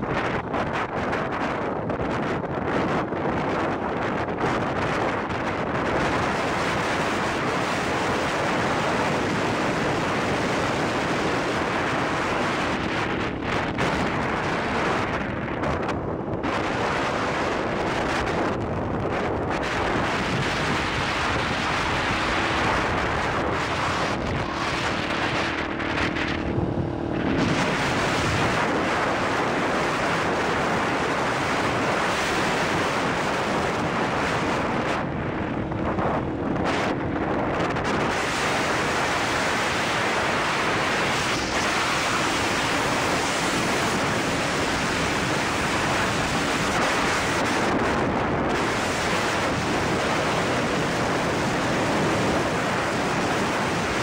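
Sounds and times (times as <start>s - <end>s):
motorcycle engine hum: 0.0s - 54.0s
wind buffeting microphone: 0.0s - 54.0s.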